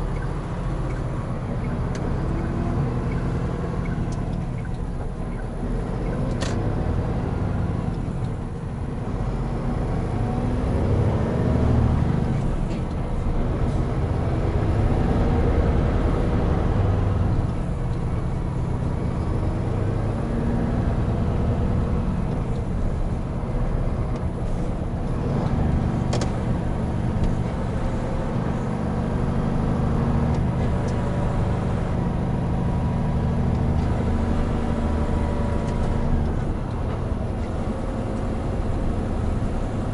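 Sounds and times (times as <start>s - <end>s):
road noise: 0.0s - 39.9s
truck diesel engine running: 0.0s - 39.9s.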